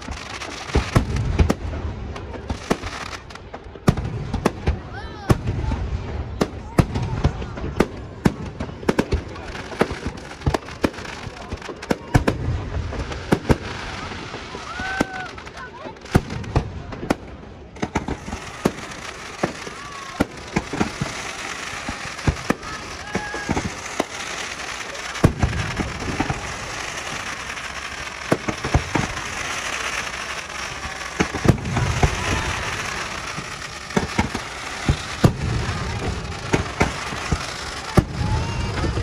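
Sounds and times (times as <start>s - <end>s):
crackling hiss: 0.0s - 4.1s, 8.9s - 39.0s
fireworks bangs and cracks: 0.0s - 39.0s
low fireworks booms: 0.0s - 39.0s.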